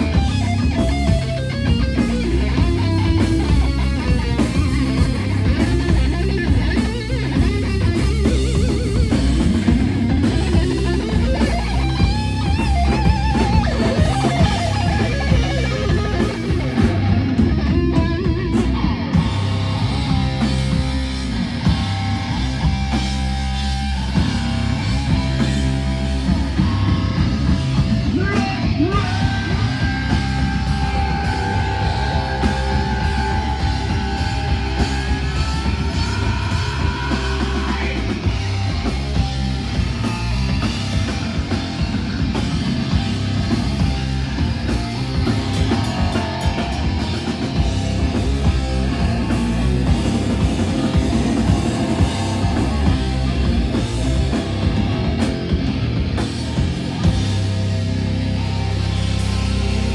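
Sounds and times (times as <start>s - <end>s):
bass guitar: 0.0s - 59.9s
distorted electric guitars: 0.0s - 59.9s
drum kit: 0.0s - 59.9s.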